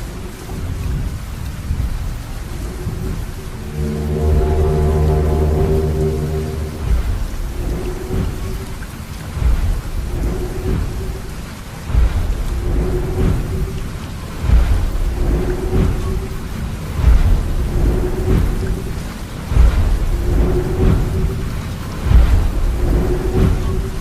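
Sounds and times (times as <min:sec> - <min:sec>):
rain hiss: 0:00.0 - 0:24.0
thunder rumbling: 0:00.0 - 0:24.0.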